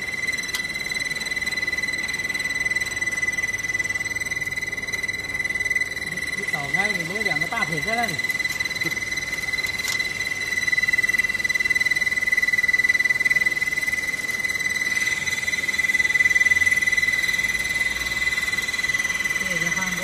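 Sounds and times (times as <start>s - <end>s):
welding machine electric buzz: 0.0s - 20.0s.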